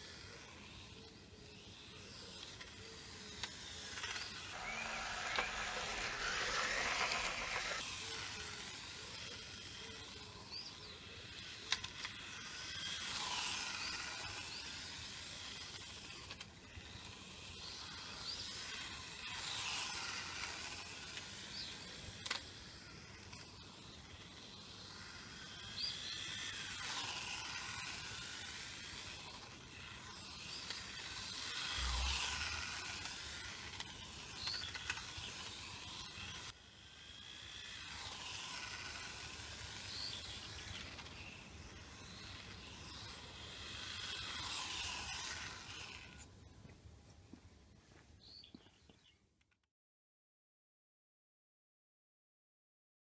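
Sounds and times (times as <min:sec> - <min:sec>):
electric motor whine: 0:00.0 - 0:46.3.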